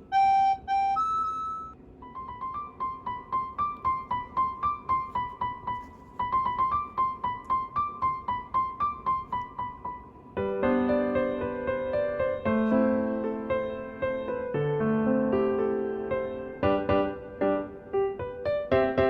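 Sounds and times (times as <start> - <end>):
light keyboard melody: 0.0 - 19.0.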